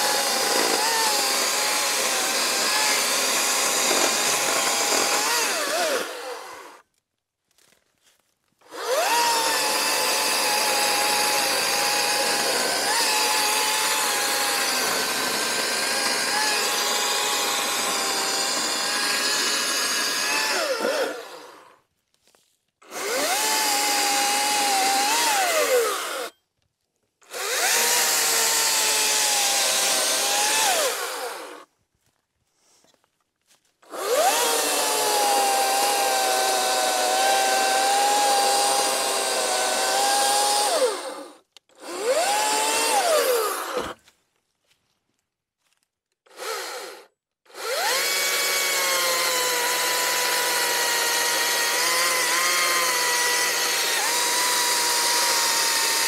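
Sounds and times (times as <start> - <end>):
chainsaw whining cutting wood: 0.0 - 6.8, 8.6 - 21.8, 22.8 - 26.4, 27.2 - 31.7, 33.8 - 44.0, 46.3 - 56.0.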